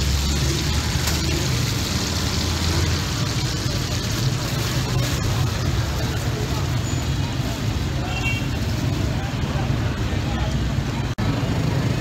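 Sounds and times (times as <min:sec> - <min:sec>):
hot oil frying: 0:00.0 - 0:12.0
street traffic engine hum: 0:00.0 - 0:12.0.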